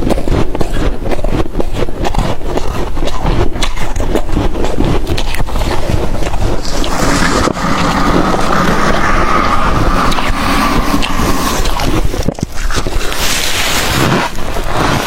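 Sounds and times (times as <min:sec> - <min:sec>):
chewing frost crunching: 0:00.0 - 0:15.0.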